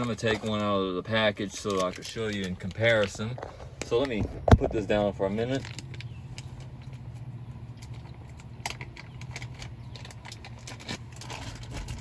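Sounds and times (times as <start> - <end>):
plastic package crackling: 1.3 - 12.0.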